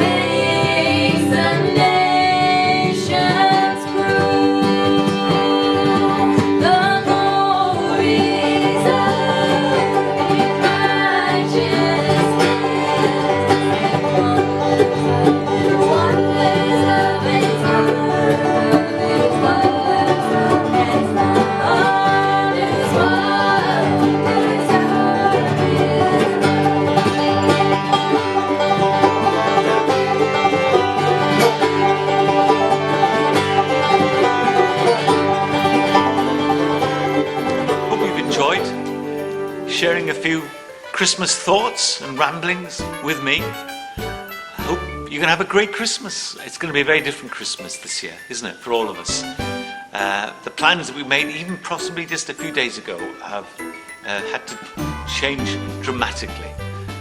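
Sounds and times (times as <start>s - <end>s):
person singing: 0.0s - 38.9s, 44.6s - 56.7s
banjo and guitar picking: 0.0s - 57.0s.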